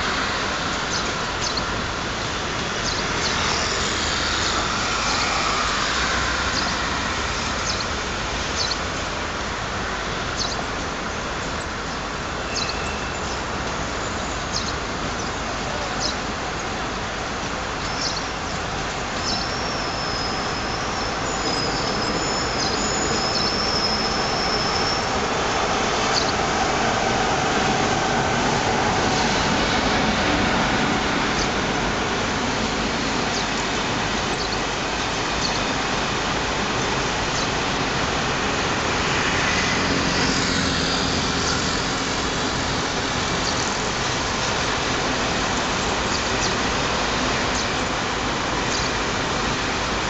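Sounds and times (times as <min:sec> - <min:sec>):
railway coaches rumbling past: 0:00.0 - 0:50.0
second train passing: 0:00.0 - 0:50.0.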